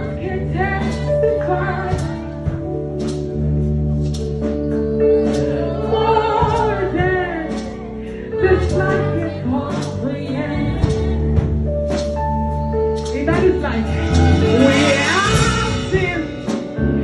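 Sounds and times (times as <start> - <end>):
held instrumental chords: 0.0 - 17.0.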